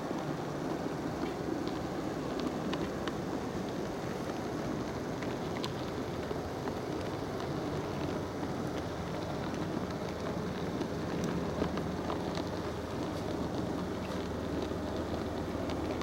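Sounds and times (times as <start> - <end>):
model train motor and wheel rumble: 0.2 - 16.0.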